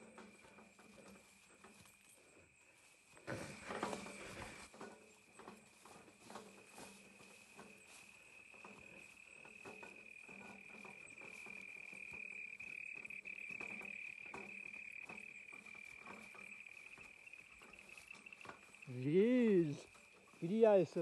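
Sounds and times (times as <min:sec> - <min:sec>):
footsteps through undergrowth: 0:00.0 - 0:21.0
high-pitched insect trill: 0:00.2 - 0:21.0.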